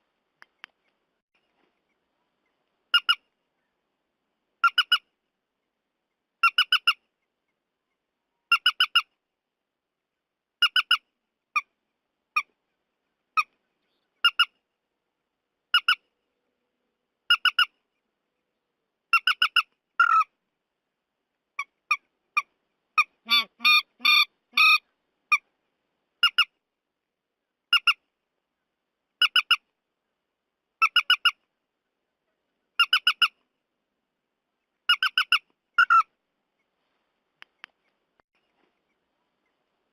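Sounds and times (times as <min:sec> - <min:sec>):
recorded bird calls: 0:00.4 - 0:09.3, 0:10.0 - 0:20.4, 0:21.5 - 0:26.6, 0:27.3 - 0:39.9.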